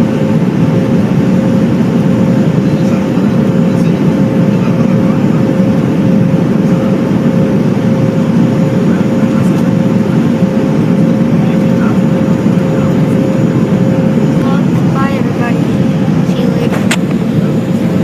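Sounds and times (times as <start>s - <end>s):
jet engine and airflow drone: 0.0s - 18.0s
steady cabin hum: 0.0s - 18.0s.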